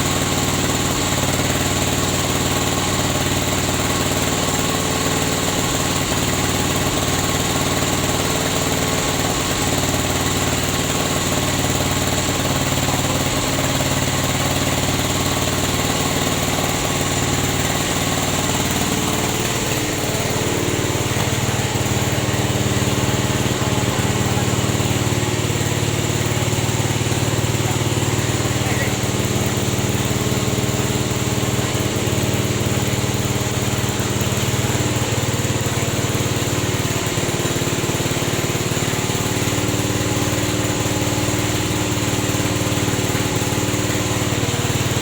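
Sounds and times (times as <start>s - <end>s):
latex press motor running: 0.0s - 45.0s.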